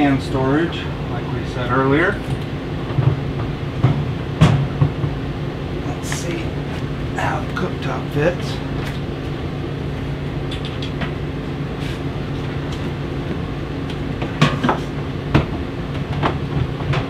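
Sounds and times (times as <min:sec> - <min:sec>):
microwave oven knocking and clunking: 0:00.0 - 0:17.0
steady low hum: 0:00.0 - 0:17.0.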